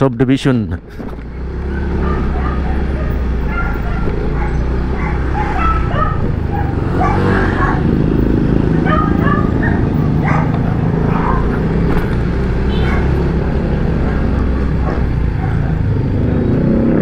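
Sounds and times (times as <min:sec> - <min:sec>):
motorcycle engine and road noise: 0:00.0 - 0:17.0
dogs barking: 0:01.6 - 0:16.2.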